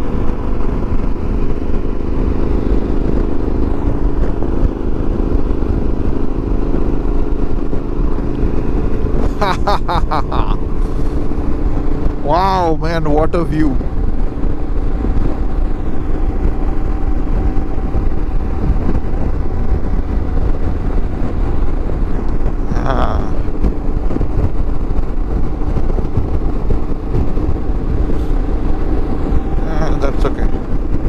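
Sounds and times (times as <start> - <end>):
motorcycle engine humming: 0.0 - 31.0
wind rush and road noise: 0.0 - 31.0.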